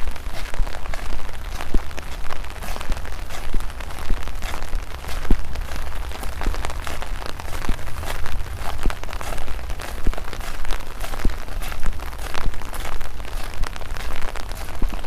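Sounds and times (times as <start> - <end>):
dull thuds like footsteps: 0.0 - 15.0
raindrops spattering: 0.0 - 15.0.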